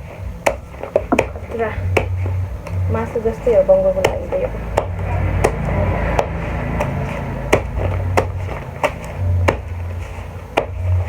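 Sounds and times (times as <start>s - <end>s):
blade chopping banana stem: 0.4s - 2.9s, 4.0s - 11.0s.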